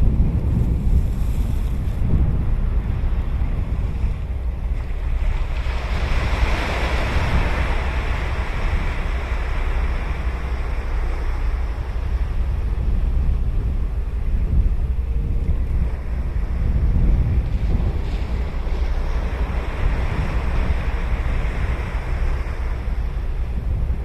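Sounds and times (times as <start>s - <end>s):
ocean waves breaking: 0.0s - 24.0s
wind rumble on microphone: 0.0s - 24.0s.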